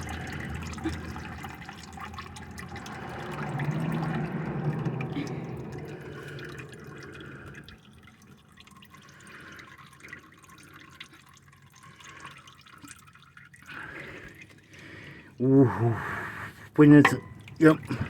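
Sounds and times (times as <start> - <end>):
oil trickling and dripping: 0.0 - 18.0.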